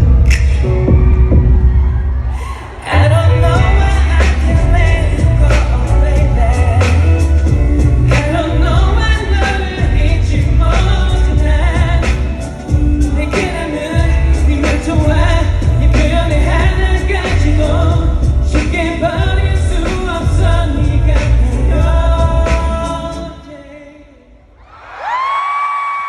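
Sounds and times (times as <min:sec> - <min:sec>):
live pop song with singing: 0:00.0 - 0:25.7.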